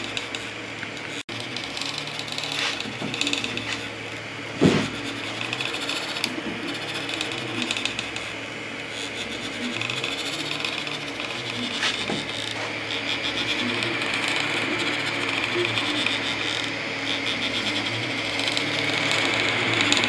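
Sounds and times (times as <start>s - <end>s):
cooling fans hissing: 0.0s - 20.0s
stepper motors whining tones: 0.0s - 20.0s.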